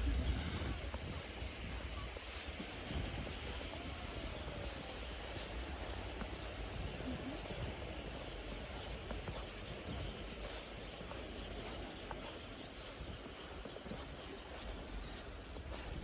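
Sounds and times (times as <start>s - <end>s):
footsteps crunching through snow: 0.0s - 16.0s
wind rumbling on microphone: 0.0s - 16.0s.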